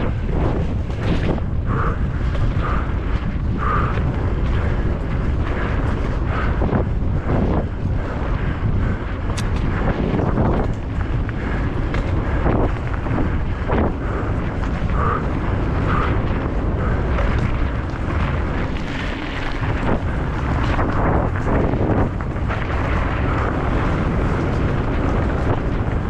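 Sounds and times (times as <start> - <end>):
bike knocking and rattling: 0.0 - 26.0
wind buffeting microphone: 0.0 - 26.0.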